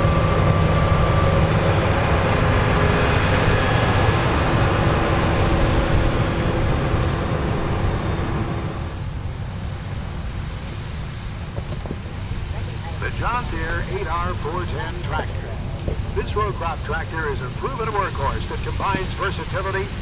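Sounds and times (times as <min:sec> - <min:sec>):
heavy farm machine engine: 0:00.0 - 0:20.0.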